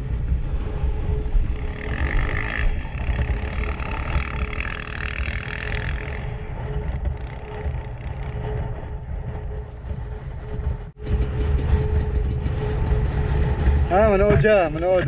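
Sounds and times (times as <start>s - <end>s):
low wind rumble on microphone: 0.0s - 15.0s
motorcycle engine running: 0.6s - 15.0s.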